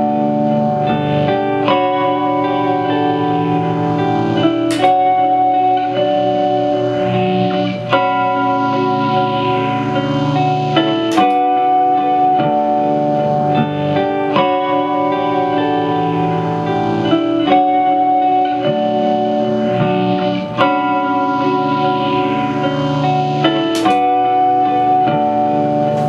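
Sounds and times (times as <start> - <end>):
ambient electric guitar loop: 0.0 - 26.0.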